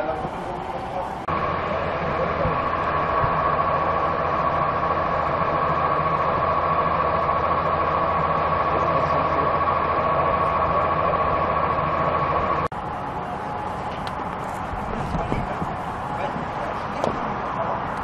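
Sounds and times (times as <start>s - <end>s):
machine running with high whine: 0.0s - 18.0s
quieter steady running sound: 0.0s - 18.0s.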